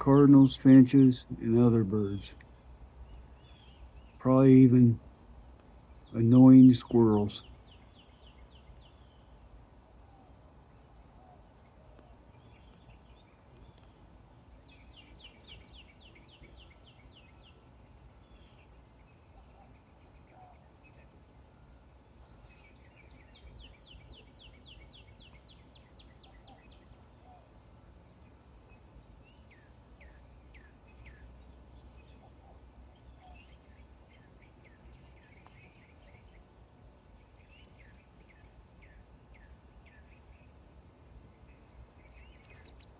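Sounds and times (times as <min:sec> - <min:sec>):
songbirds trilling and chirping: 0:00.0 - 0:42.9.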